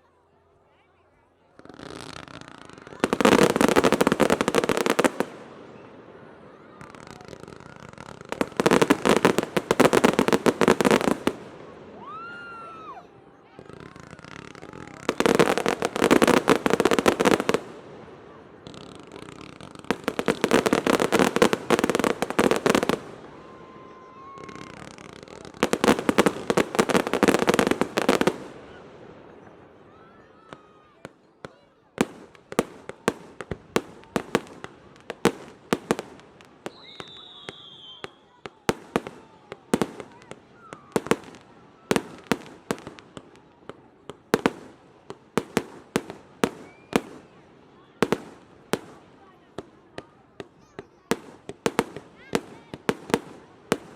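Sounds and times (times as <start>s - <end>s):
fireworks crackling: 1.4s - 53.9s.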